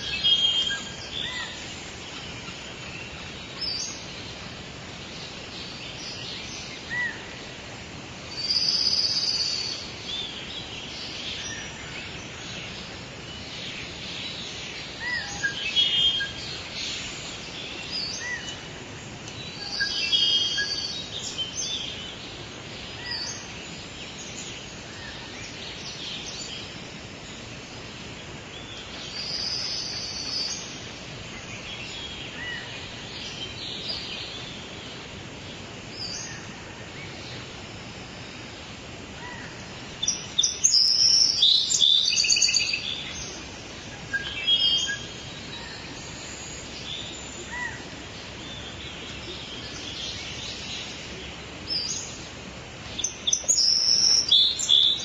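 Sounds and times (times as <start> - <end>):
outdoor ambience hiss: 0.0 - 55.0
wild birds calling: 0.0 - 55.0.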